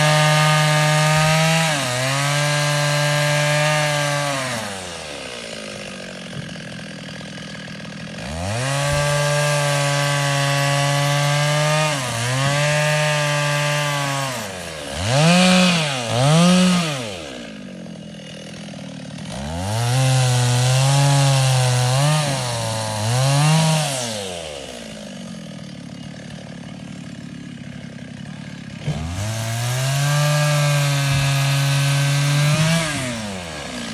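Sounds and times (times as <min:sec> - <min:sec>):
engine saw cutting wood: 0:00.0 - 0:33.9
saw engine idling: 0:00.2 - 0:23.2, 0:23.9 - 0:33.9.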